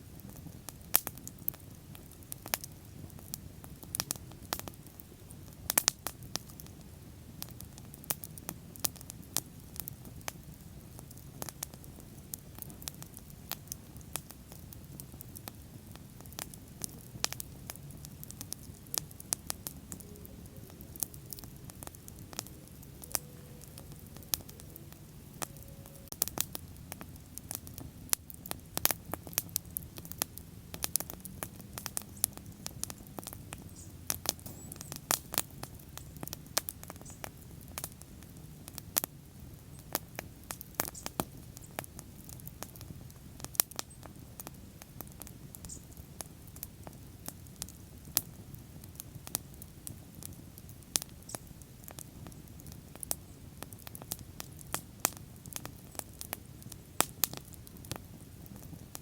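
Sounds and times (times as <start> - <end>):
bonfire flames rumbling: 0.0 - 59.0
burning wood crackling and popping: 0.0 - 59.0.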